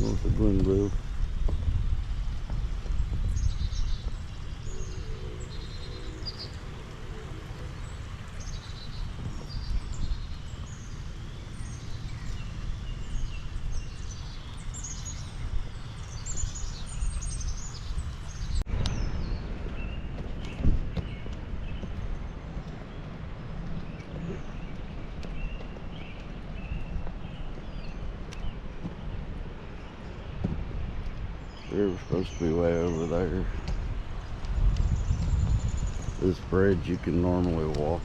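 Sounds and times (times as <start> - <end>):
low rumble: 0.0 - 38.0
songbirds chirping and whistling: 0.0 - 38.0.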